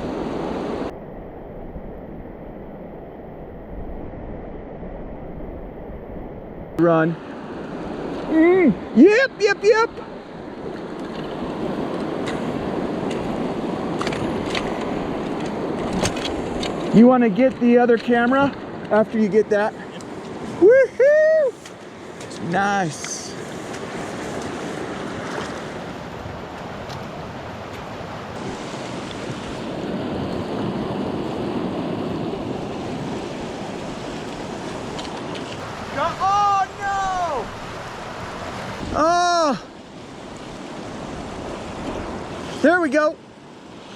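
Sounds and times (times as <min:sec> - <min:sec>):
creek water rushing: 0:06.8 - 0:43.9.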